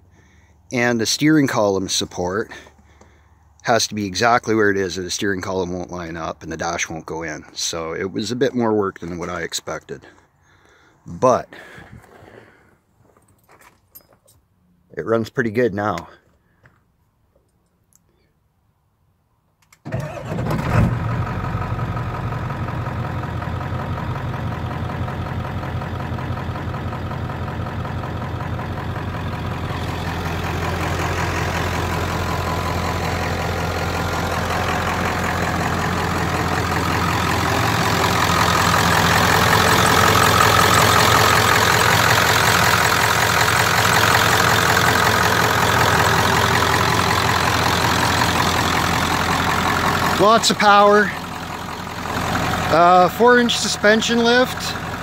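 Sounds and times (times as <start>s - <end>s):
diesel engine starting and idling: 0.0s - 12.7s, 19.7s - 55.0s.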